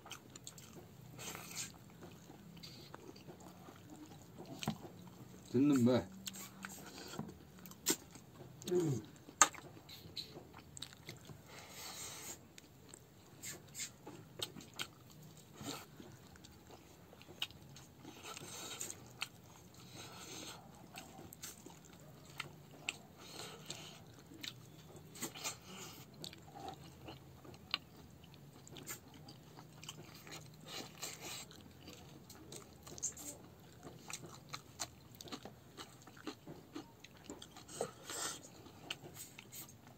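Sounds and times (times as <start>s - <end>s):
food crunching: 0.0s - 39.9s
man chewing food: 0.0s - 39.9s.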